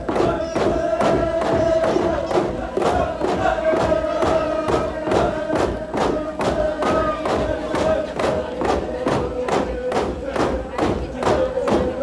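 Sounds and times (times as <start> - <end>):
steady dance beat: 0.0 - 12.0
voices chanting melody: 0.0 - 12.0.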